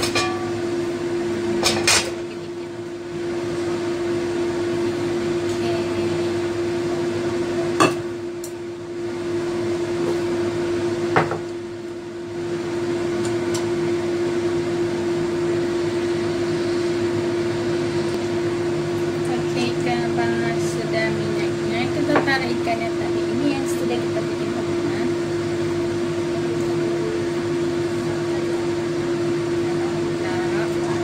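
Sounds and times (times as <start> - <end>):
fan motor humming: 0.0 - 31.0.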